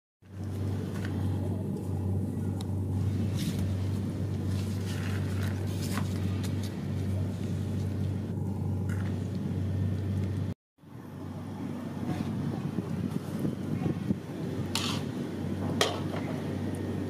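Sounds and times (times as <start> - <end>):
steady low drone: 0.2 - 17.0.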